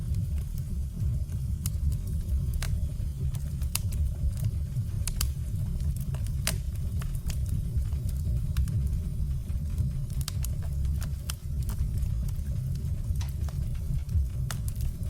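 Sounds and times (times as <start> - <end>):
crackles and pops of burning logs: 0.0 - 15.0
low rumble of fire: 0.0 - 15.0.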